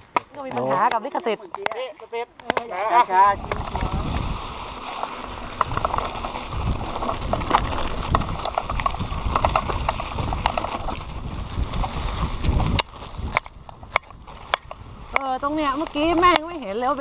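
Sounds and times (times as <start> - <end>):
bike rattling and clicking: 0.0 - 17.0
wind rumble on microphone: 3.2 - 17.0.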